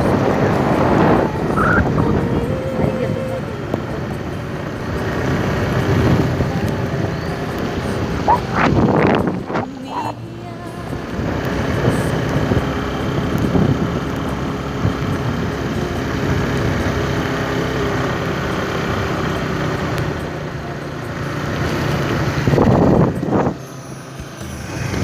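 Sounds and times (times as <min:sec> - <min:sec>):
road and wind noise: 0:00.0 - 0:25.0
vehicle engine running: 0:00.0 - 0:25.0.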